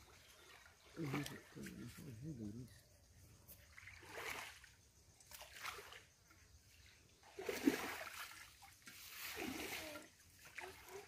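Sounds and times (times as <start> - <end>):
muddy water splashing: 0.0 - 2.6, 3.6 - 11.0.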